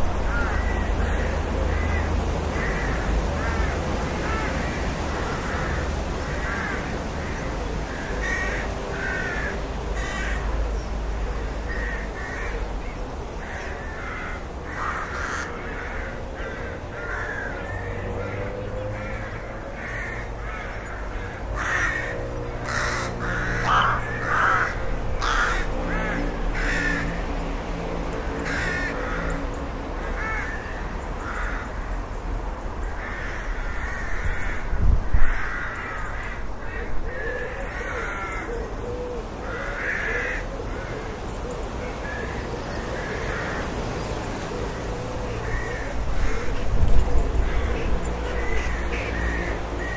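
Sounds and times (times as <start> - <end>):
rooks cawing: 0.0 - 32.2, 32.8 - 49.9.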